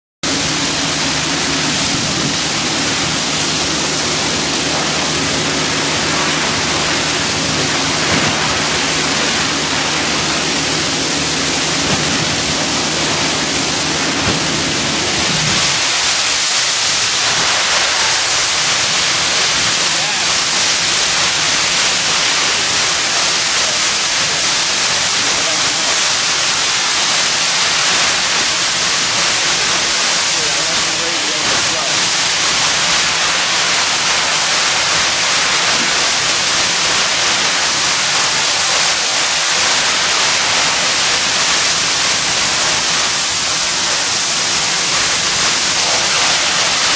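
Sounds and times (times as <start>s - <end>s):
low steady drone: 0.2s - 46.9s
water spray hissing on fire: 0.3s - 46.9s.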